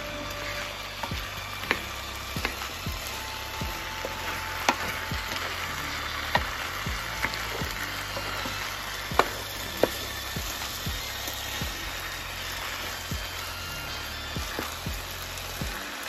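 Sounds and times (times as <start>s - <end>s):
wooden spoon stirring in skillet: 0.0s - 13.6s, 14.2s - 16.0s
steady sizzle: 0.0s - 16.0s.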